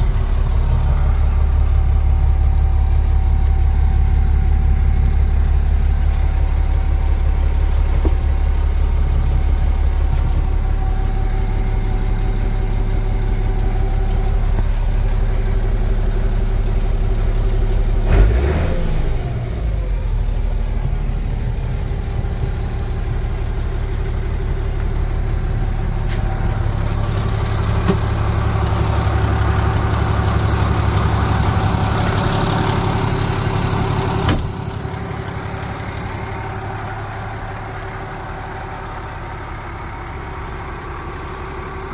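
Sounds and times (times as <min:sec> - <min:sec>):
diesel tractor idling: 0:00.0 - 0:41.9.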